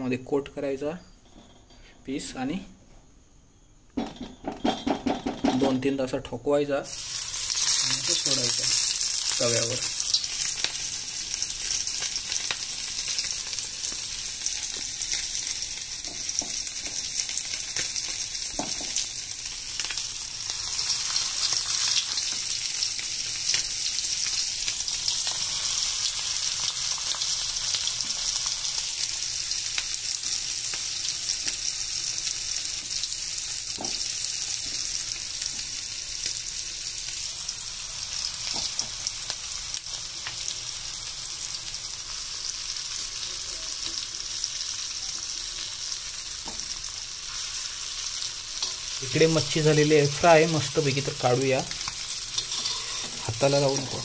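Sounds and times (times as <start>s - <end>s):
fish sizzling in oil: 6.9s - 54.0s.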